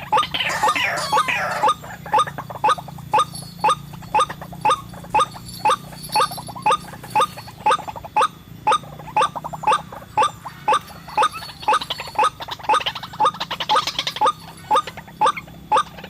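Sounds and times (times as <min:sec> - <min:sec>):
low steady hum: 0:00.0 - 0:16.0
waterhen calls: 0:00.0 - 0:16.0.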